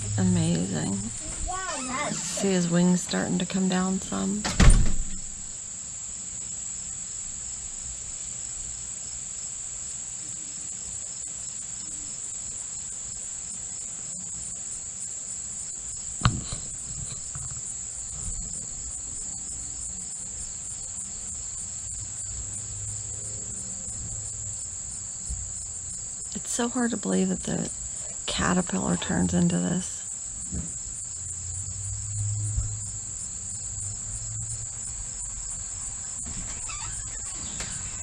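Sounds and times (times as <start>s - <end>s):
high-pitched insect chorus: 0.0s - 28.2s, 30.0s - 38.0s.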